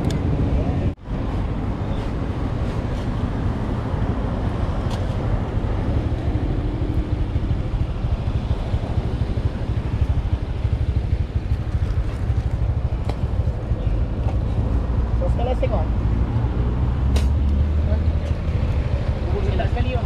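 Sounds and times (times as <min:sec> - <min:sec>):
vehicle rumbling: 0:00.0 - 0:20.0
wind buffeting microphone: 0:00.0 - 0:20.0.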